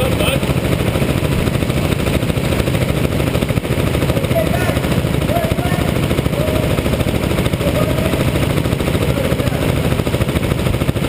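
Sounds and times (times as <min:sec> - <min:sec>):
go-kart engines revving: 0:00.0 - 0:11.0.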